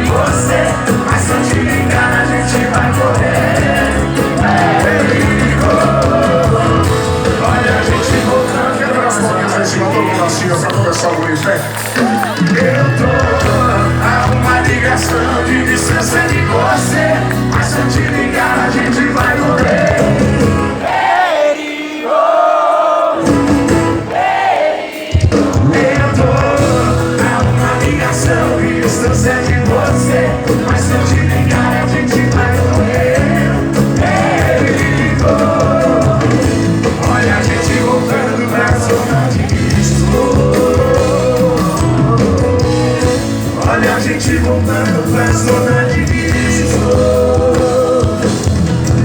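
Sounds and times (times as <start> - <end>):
person singing over a band: 0.0 - 49.0.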